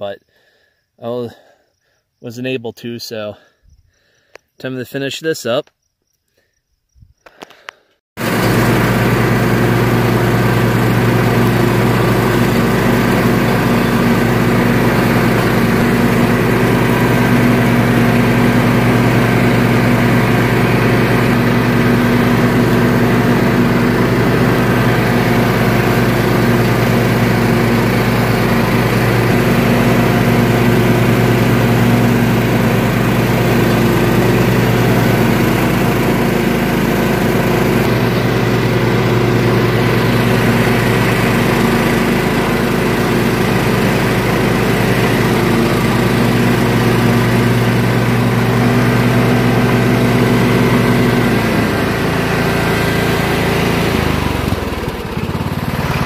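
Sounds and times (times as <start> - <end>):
lawn tractor engine running: 8.2 - 56.0.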